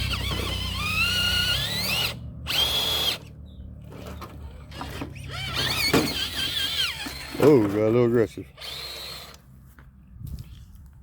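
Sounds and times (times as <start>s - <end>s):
electric motor and gears whining: 0.0s - 9.5s.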